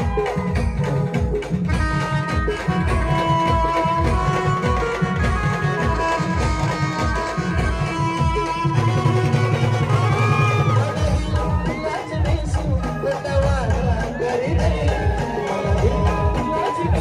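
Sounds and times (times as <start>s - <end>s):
band playing melody: 0.0s - 17.0s
steady drum beat: 0.0s - 17.0s.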